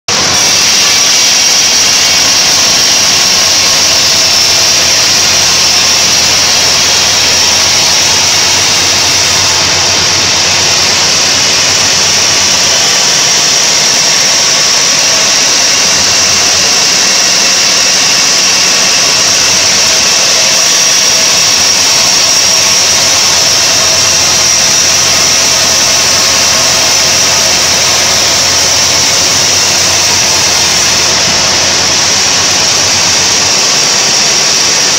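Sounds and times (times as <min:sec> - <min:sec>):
band saw whining through log: 0:00.0 - 0:34.9
machine hum: 0:00.1 - 0:34.9.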